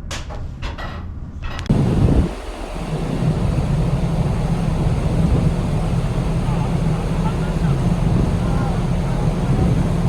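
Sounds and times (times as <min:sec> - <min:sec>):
wind on microphone: 0:01.6 - 0:10.0
low drone: 0:01.7 - 0:10.0.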